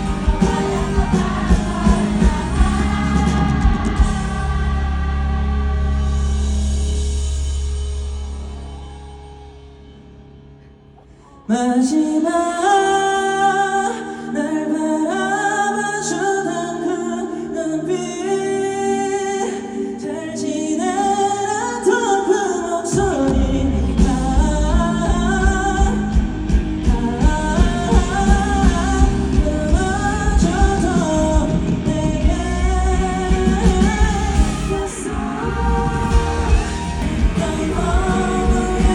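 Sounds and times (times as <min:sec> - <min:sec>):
person singing: 0:00.0 - 0:07.1, 0:11.0 - 0:38.9
live pop band playing: 0:00.0 - 0:10.4, 0:11.7 - 0:38.9.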